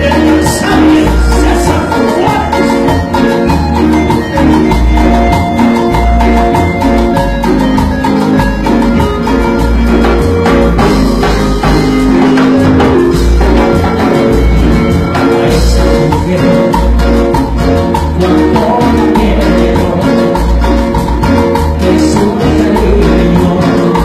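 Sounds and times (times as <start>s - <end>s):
cumbia band playing: 0.0s - 24.0s.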